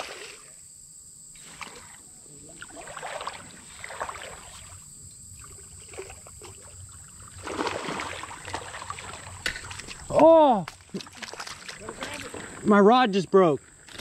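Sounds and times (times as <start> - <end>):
creek water splashing: 0.0 - 0.6, 1.4 - 14.0.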